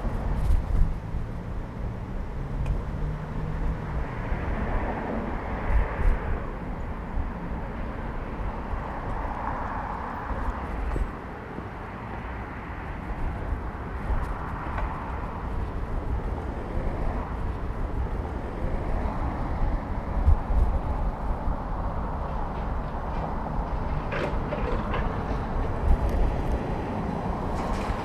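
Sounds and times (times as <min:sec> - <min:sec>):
passing street traffic: 0:00.0 - 0:28.0
wind rumble on microphone: 0:00.0 - 0:28.0.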